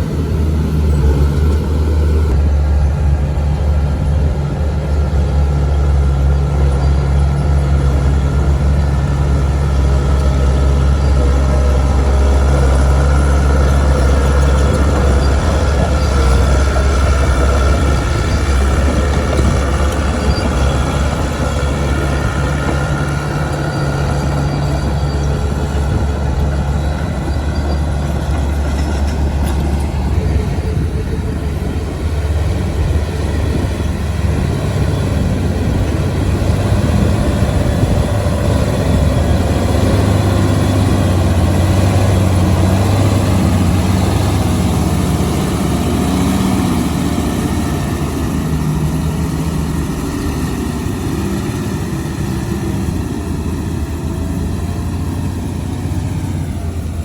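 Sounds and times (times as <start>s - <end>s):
diesel machinery engine drone: 0.0s - 57.0s
machinery rattling clatter: 0.0s - 57.0s.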